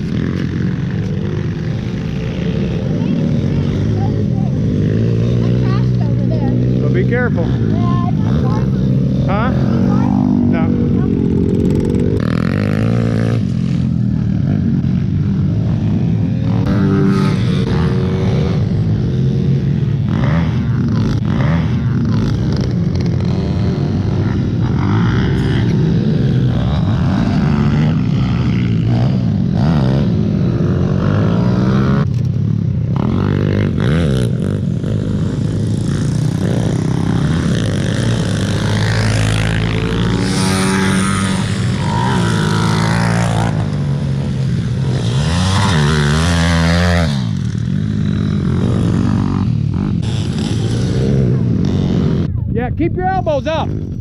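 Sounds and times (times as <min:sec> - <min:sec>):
pit bike engine running close: 0:00.0 - 0:54.0
small bikes revving: 0:00.0 - 0:54.0.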